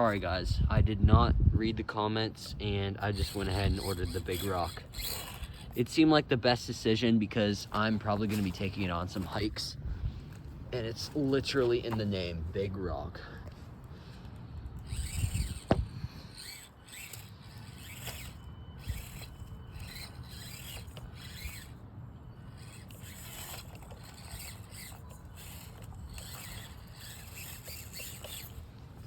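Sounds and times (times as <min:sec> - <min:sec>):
scraping over rock: 0:02.3 - 0:13.4, 0:14.8 - 0:21.8, 0:22.4 - 0:29.0
small electric motor whining: 0:02.3 - 0:29.0.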